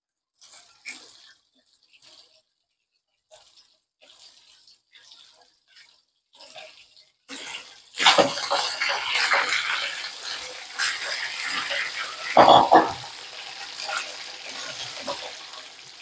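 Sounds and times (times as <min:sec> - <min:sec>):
fish sizzling in hot oil: 0:00.4 - 0:16.0.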